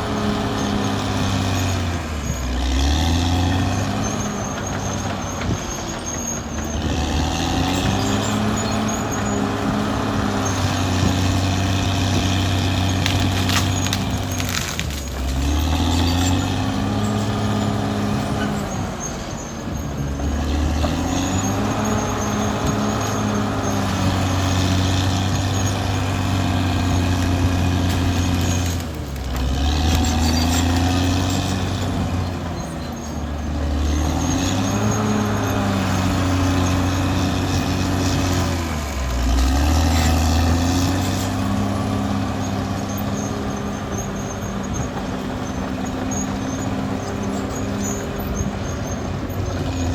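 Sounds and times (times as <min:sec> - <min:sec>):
bulldozer diesel engine under load: 0:00.0 - 0:49.9.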